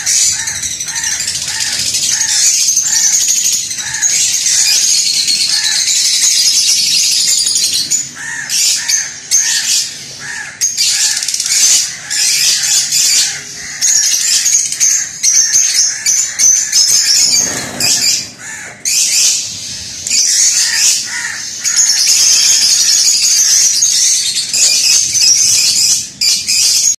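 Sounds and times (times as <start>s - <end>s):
lovebirds chattering: 0.0s - 27.0s.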